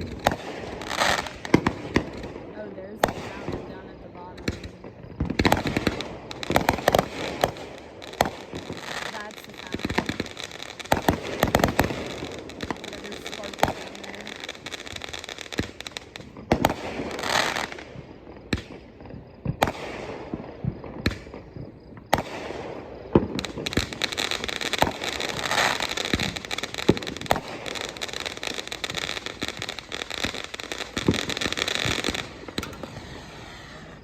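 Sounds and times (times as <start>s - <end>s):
fireworks bangs and pops: 0.0s - 34.0s
fireworks crackling: 0.0s - 34.0s.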